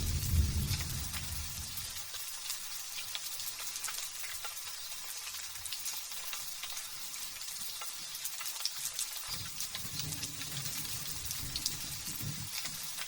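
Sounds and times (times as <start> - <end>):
light drizzle pattering: 0.0 - 13.0.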